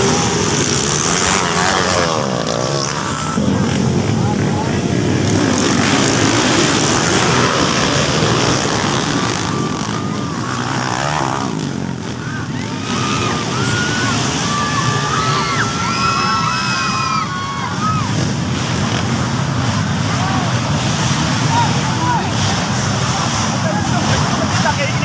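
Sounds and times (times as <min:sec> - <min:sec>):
dirt bike engines revving: 0:00.0 - 0:25.0
voices: 0:00.0 - 0:25.0.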